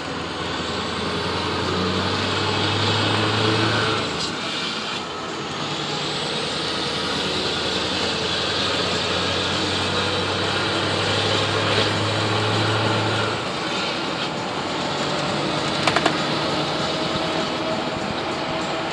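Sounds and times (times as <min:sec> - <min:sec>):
truck engine running: 0:00.0 - 0:18.9.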